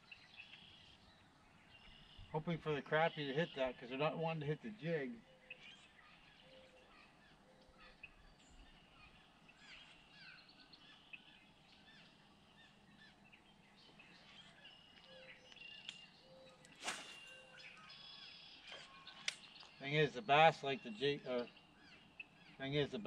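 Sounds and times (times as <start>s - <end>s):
small birds chirping and singing: 0.0s - 23.0s.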